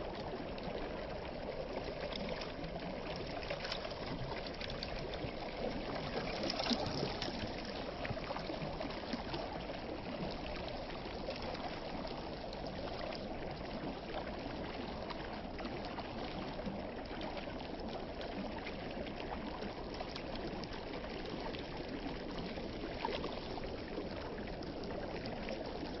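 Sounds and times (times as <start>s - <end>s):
flowing water: 0.0s - 26.0s.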